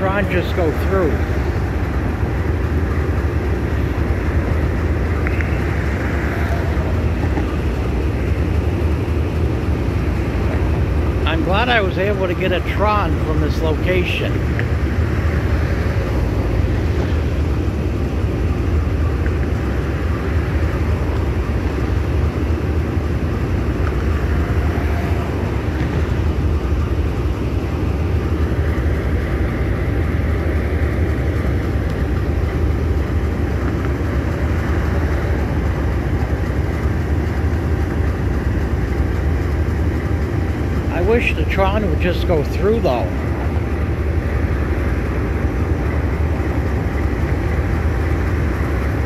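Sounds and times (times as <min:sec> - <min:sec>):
diesel locomotive idling: 0:00.0 - 0:49.0.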